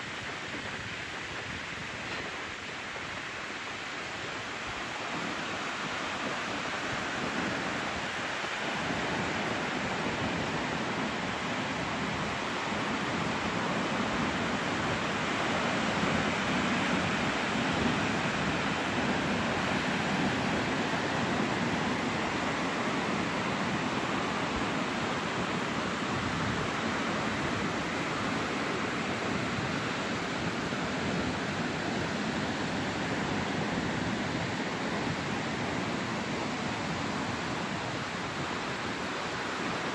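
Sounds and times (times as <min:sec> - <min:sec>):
ocean surf breaking on a beach: 0:00.0 - 0:39.9.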